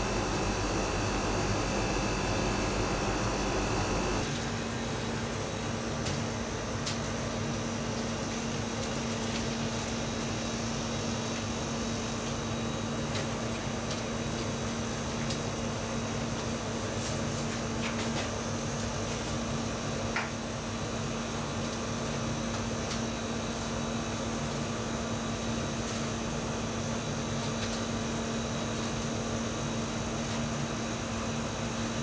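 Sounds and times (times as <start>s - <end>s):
fan machinery humming: 0.0s - 32.0s.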